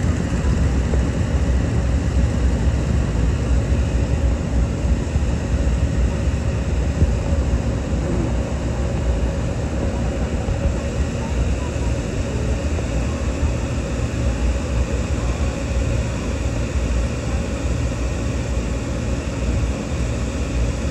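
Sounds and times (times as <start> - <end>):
twin radial engines rumbling: 0.0 - 20.7.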